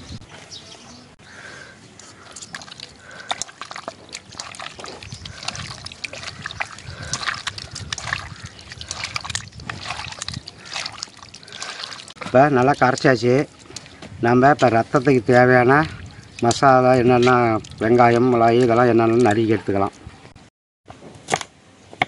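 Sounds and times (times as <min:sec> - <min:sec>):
wet squelching in a metal bowl: 0:02.0 - 0:20.0.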